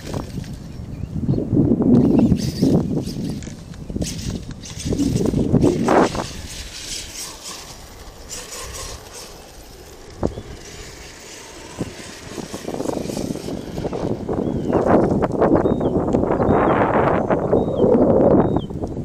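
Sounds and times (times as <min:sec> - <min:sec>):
electric rc truck driving on dirt: 0:00.0 - 0:19.0.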